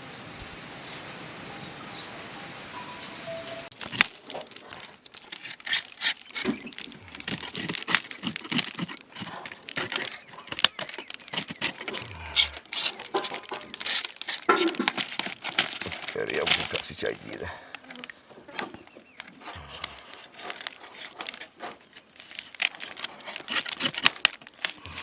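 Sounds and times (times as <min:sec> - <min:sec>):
handling wooden beehive frames: 0:03.7 - 0:25.0.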